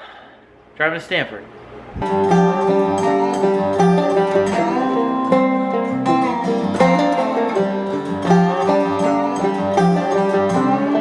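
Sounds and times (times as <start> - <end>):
plucked-string instrumental music: 2.0 - 11.0.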